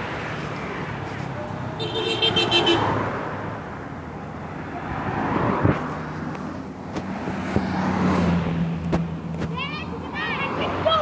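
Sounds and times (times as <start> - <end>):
vehicles rushing past: 0.0 - 11.0.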